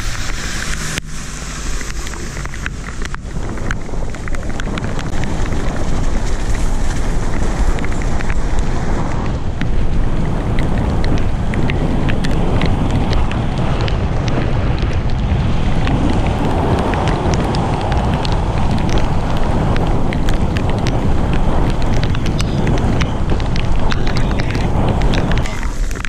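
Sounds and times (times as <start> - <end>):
tyres crunching on gravel: 0.0 - 26.0
wind buffeting microphone: 0.0 - 26.0
bike clicks and rattles: 1.7 - 26.0.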